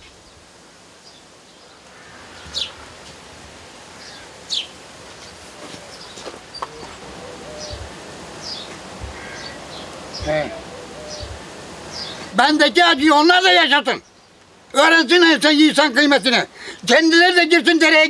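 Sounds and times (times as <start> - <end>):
songbird chirping: 0.0 - 16.3
background hiss: 0.0 - 18.0.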